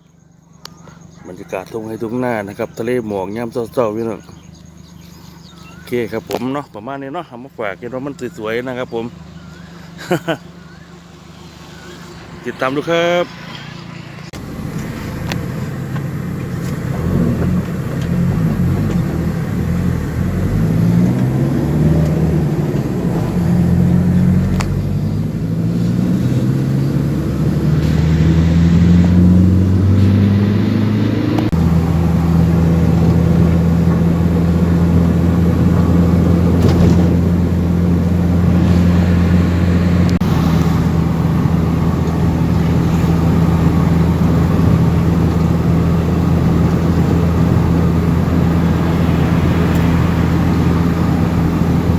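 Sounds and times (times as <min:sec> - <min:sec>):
vehicle engine accelerating: 0:00.0 - 0:06.7, 0:07.6 - 0:51.9.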